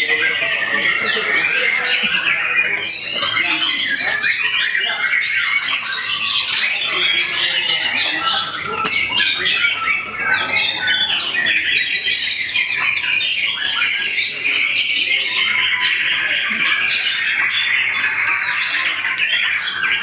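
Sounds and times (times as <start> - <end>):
many songbirds singing: 0.0 - 20.0.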